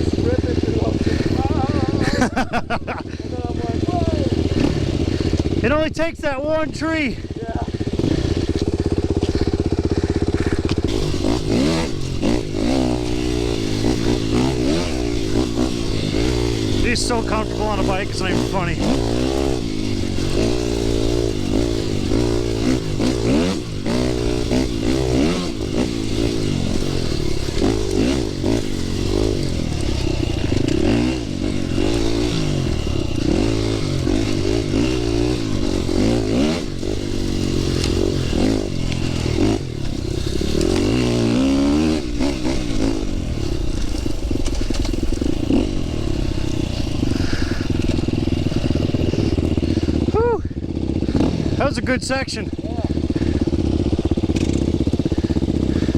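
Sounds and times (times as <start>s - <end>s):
dirt bike engine revving: 0.0s - 55.9s
bike clattering over bumps: 7.6s - 51.6s, 52.8s - 55.9s.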